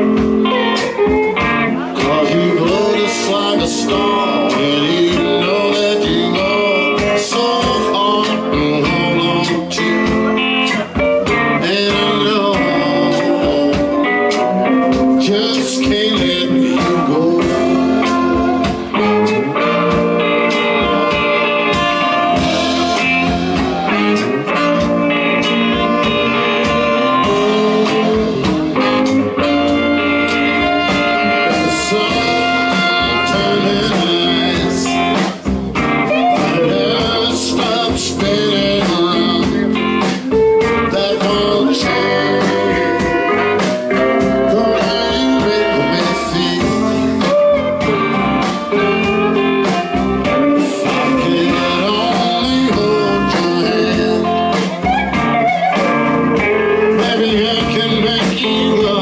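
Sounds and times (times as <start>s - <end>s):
electric guitar: 0.0s - 59.0s
live blues band playing: 0.0s - 59.0s.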